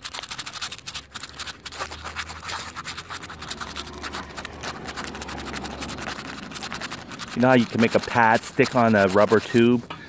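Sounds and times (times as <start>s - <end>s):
sandpaper rubbing on metal: 0.0s - 9.9s.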